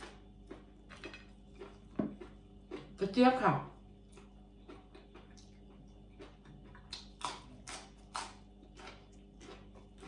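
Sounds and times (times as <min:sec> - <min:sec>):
crunchy chewing: 0:00.0 - 0:03.0, 0:03.8 - 0:10.0.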